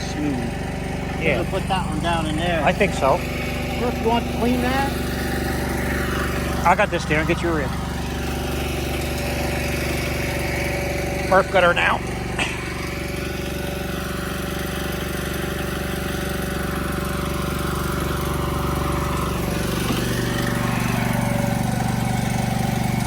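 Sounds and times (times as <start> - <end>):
small generator engine running: 0.0 - 23.0.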